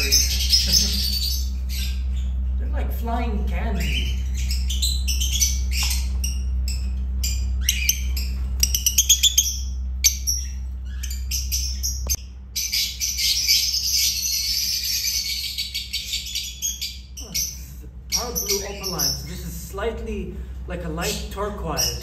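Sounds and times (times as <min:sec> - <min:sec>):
birds chirping and squawking: 0:00.0 - 0:22.0
low hum: 0:00.0 - 0:22.0.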